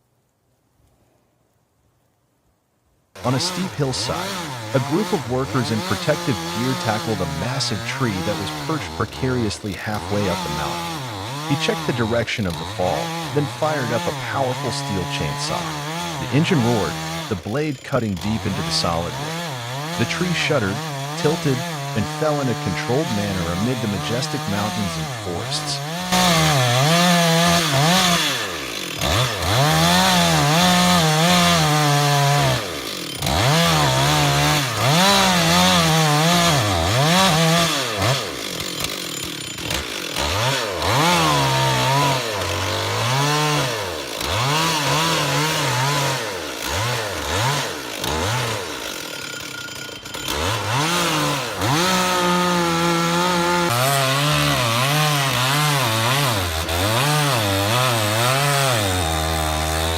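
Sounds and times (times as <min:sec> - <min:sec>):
chainsaw cutting wood: 0:03.2 - 0:59.9.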